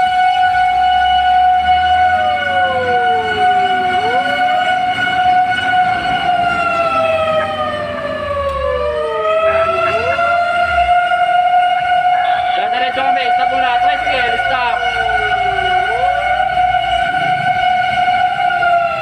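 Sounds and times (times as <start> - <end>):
fire engine sirens wailing: 0.0 - 19.0.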